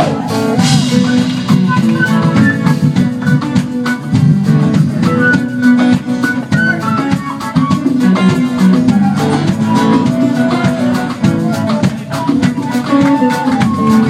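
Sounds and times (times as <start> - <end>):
flute melody notes: 0.0 - 4.0, 4.8 - 14.0
live band playing latin music: 0.0 - 14.0.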